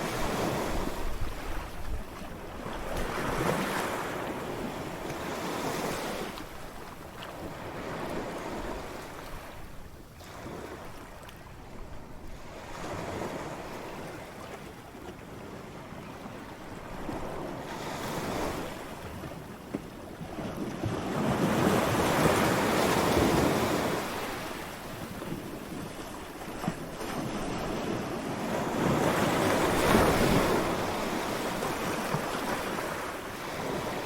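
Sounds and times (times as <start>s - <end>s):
ocean waves washing onto shore: 0.0s - 34.0s.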